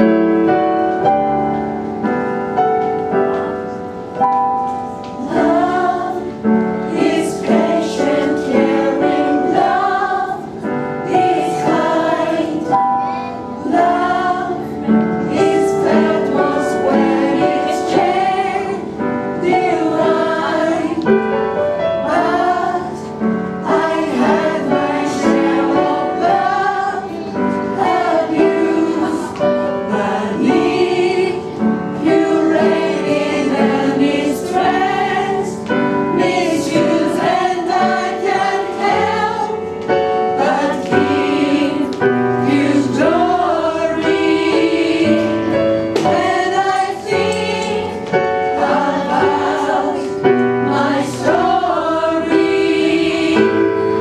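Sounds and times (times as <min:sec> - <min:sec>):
choir singing gospel music: 0:04.7 - 0:54.0.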